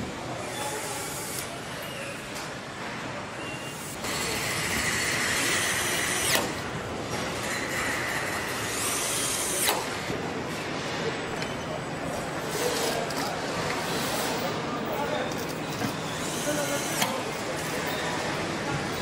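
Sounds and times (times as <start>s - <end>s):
assembly hall noise: 0.0s - 19.0s.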